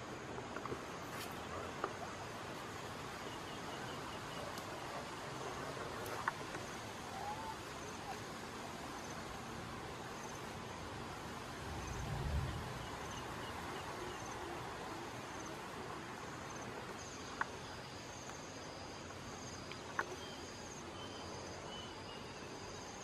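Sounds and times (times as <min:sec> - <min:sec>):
insects chirping: 0:00.0 - 0:23.0
steady hiss: 0:00.0 - 0:23.0.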